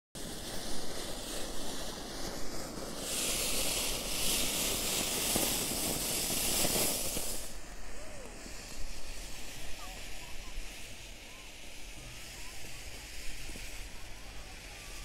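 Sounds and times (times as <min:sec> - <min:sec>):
firework crackles: 0:00.2 - 0:15.0
fountain fireworks hissing: 0:00.2 - 0:15.0.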